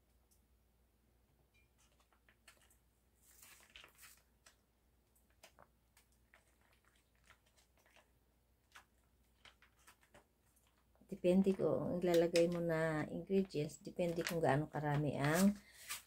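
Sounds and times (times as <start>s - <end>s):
plastic packet crinkling: 1.8s - 16.0s.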